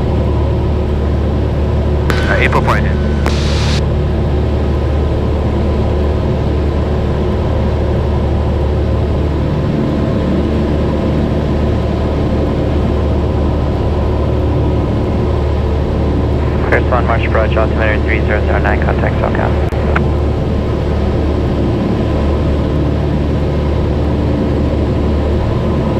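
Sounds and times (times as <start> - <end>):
propeller plane engine droning: 0.0 - 25.9.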